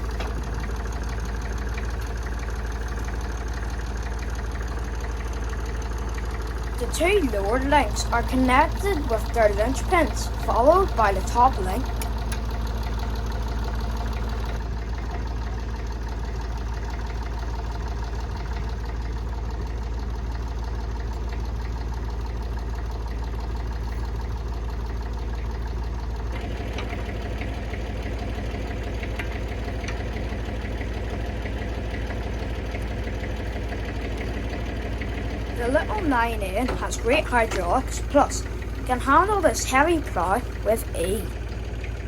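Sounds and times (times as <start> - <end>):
diesel tractor engine running: 0.0 - 42.0.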